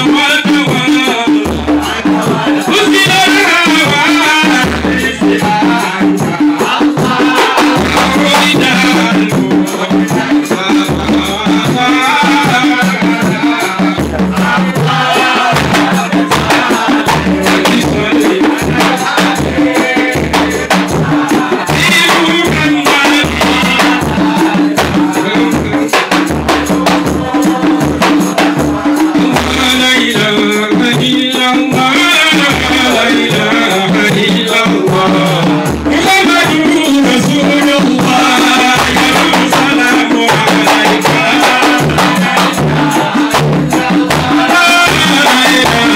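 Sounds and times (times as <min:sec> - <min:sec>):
person chanting into a microphone: 0:00.0 - 0:26.0, 0:26.8 - 0:45.9
frame drums beating: 0:00.0 - 0:45.9.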